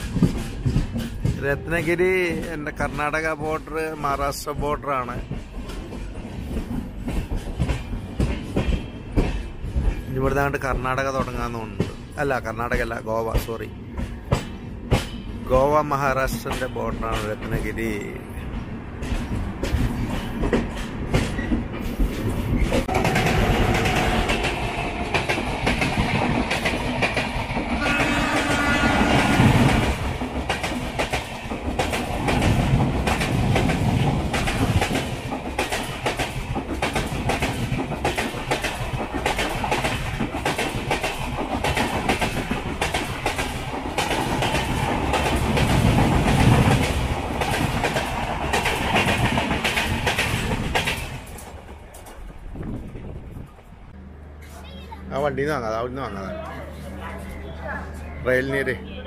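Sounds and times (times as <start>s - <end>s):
wheels clickety-clack over rail joints: 0.0s - 54.8s
train rumble: 0.0s - 59.0s.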